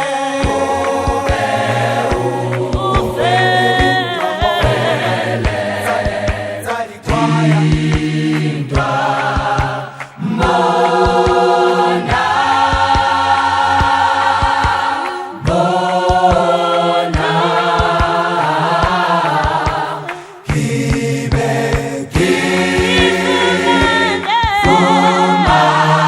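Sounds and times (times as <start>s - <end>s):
choir singing in harmony: 0.0s - 26.0s.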